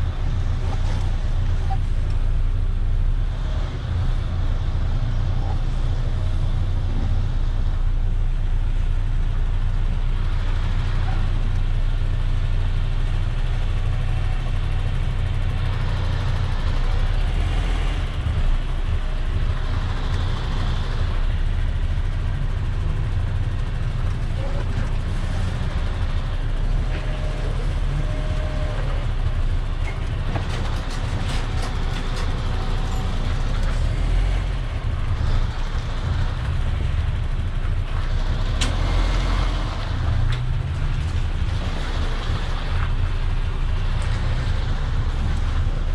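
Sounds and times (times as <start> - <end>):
truck diesel engine rumble: 0.0 - 45.9.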